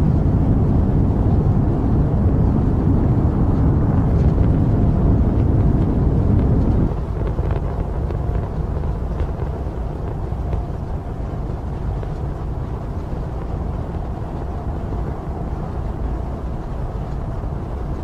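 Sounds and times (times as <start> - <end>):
rocket engines rumbling: 0.0 - 18.0.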